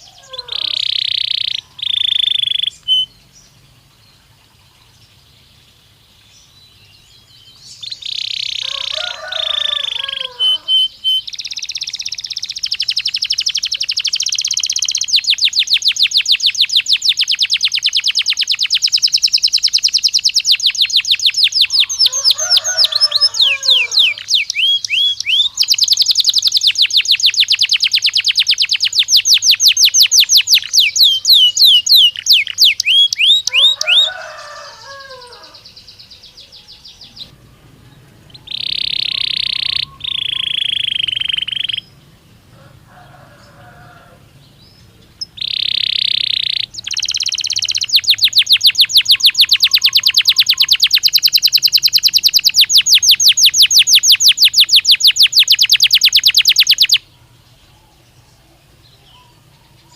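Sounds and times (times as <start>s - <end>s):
canary trilling: 0.0s - 3.2s, 7.6s - 44.2s, 45.1s - 57.1s
lower warbling bird call: 0.0s - 3.3s, 7.6s - 42.0s, 44.8s - 59.9s.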